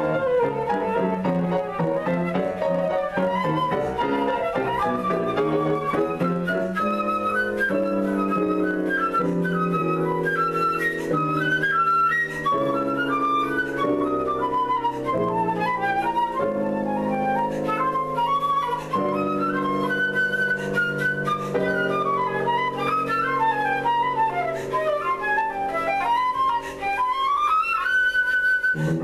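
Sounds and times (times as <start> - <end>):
flute playing quick runs: 0.0 - 29.0
piano chords: 0.0 - 29.0.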